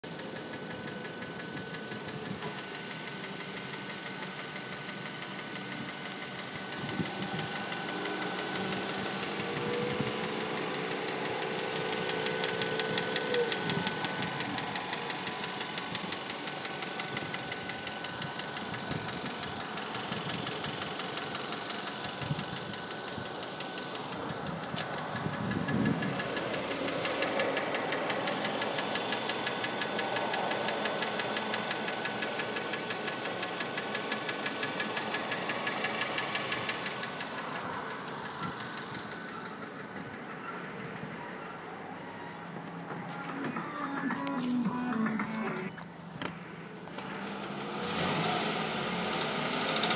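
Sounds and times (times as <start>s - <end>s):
car engine running: 0.0s - 49.9s
engine ticking knock: 0.0s - 49.9s.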